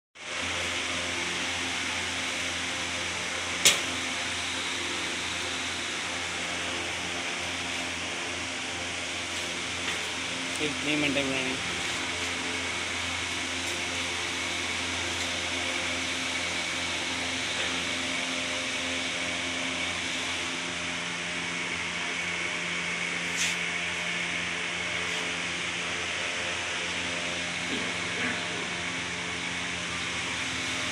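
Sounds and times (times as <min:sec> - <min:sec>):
steady mechanical hum: 0:00.2 - 0:30.9.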